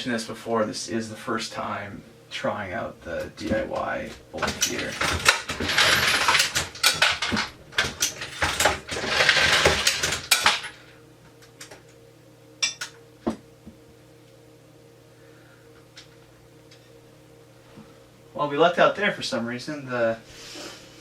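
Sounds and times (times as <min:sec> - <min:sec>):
faint steady motor hum: 0:00.0 - 0:21.0.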